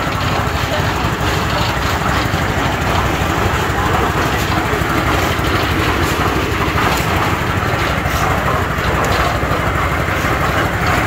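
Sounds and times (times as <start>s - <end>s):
cement mixer engine rumbling: 0.0s - 11.0s.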